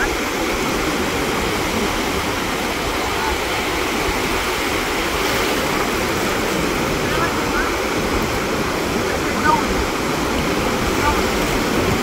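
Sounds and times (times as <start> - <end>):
small waves breaking on beach: 0.0 - 12.0
wind rumble on microphone: 0.0 - 12.0.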